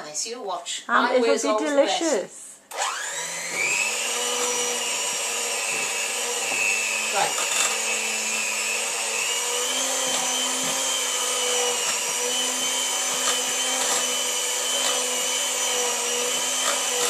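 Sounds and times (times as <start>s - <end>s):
electric mixer whisking batter: 2.7s - 17.0s.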